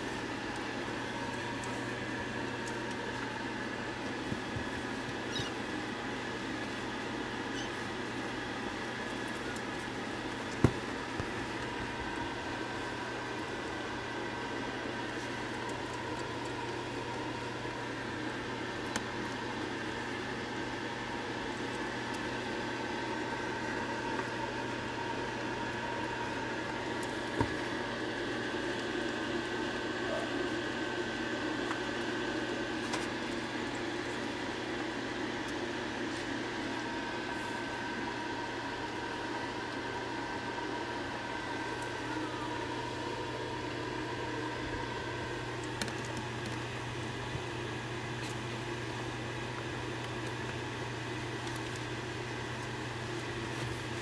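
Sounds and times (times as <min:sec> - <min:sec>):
mechanical hum and hiss: 0:00.0 - 0:54.0.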